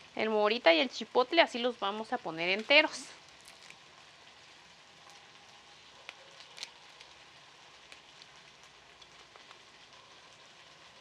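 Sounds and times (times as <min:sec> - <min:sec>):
tomato sizzling in oil: 0:00.0 - 0:11.0.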